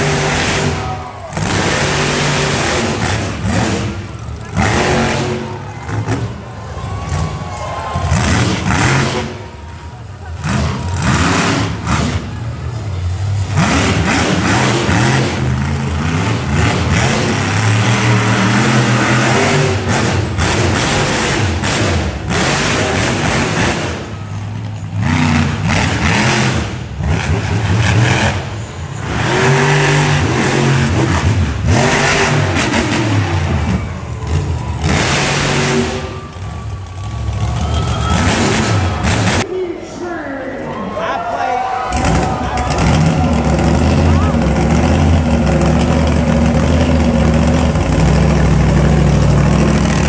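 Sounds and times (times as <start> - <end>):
exhaust roaring: 0.0 - 39.5, 41.8 - 50.0
monster truck engines revving: 0.0 - 50.0.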